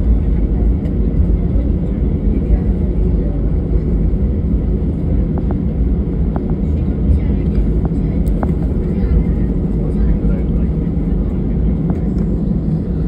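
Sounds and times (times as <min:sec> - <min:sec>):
jet engines and wheels rumbling: 0:00.0 - 0:13.0.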